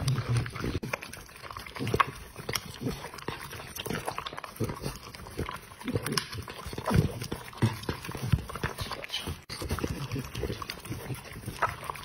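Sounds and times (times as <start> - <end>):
dog chomping and crunching food: 0.0 - 12.0.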